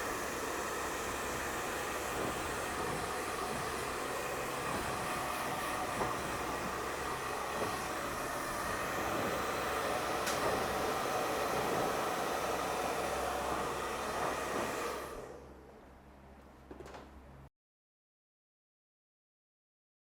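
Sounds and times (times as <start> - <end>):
electric fan humming: 0.0 - 17.5.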